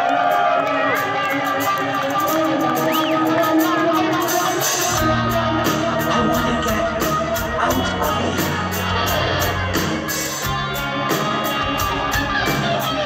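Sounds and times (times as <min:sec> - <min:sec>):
bass guitar: 0:00.0 - 0:13.0
electric guitar: 0:00.0 - 0:13.0.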